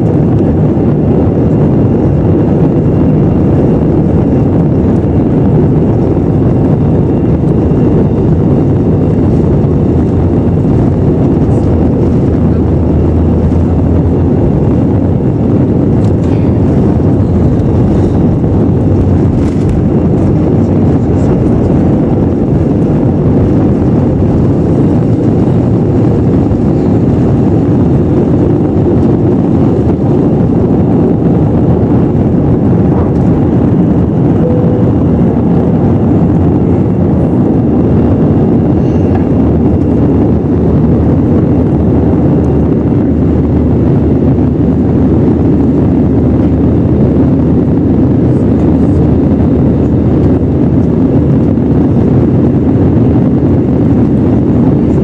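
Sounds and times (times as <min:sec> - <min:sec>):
jet engines rumbling: 0:00.0 - 0:55.0
rushing air: 0:00.0 - 0:55.0.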